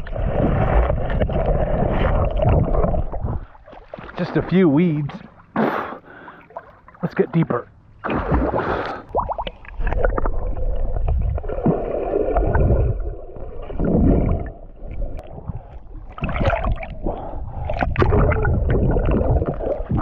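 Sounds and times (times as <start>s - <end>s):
water sloshing and gurgling: 0.0s - 20.0s
water splashes: 0.0s - 20.0s.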